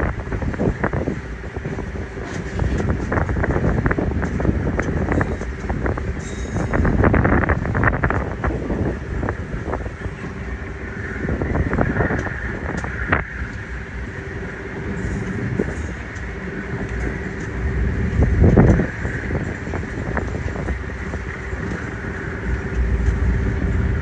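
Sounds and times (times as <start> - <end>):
passenger train rumbling: 0.0 - 24.0
wheels clicking on rails: 0.0 - 24.0
wind buffeting microphone: 0.0 - 24.0.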